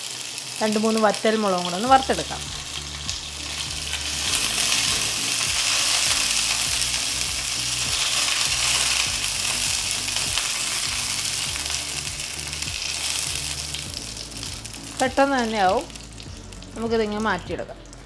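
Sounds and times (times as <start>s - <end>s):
spices sizzling in hot oil: 0.0s - 18.0s.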